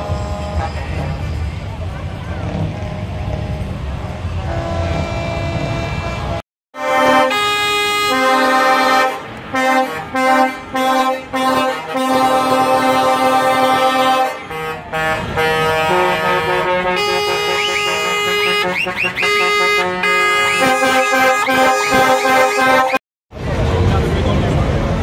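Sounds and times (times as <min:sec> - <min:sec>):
truck air horns playing a tune: 0:00.0 - 0:01.5, 0:02.7 - 0:23.0.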